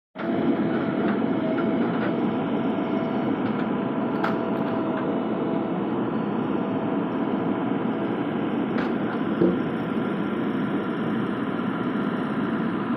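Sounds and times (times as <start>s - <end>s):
diesel engine running: 0.2s - 12.9s.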